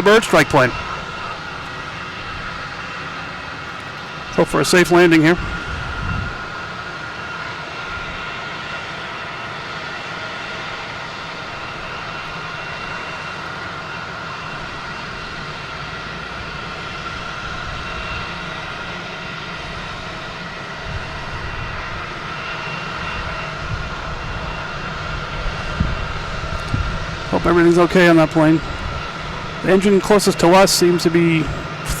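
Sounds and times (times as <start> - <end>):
jet airliner engines whining: 0.0 - 32.0.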